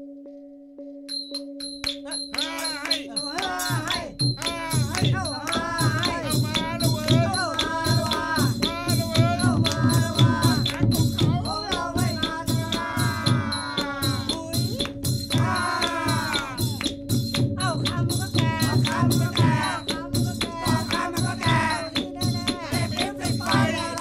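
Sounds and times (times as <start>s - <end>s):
shaker rhythm: 1.1s - 24.0s
person singing: 2.0s - 17.0s, 17.6s - 24.0s.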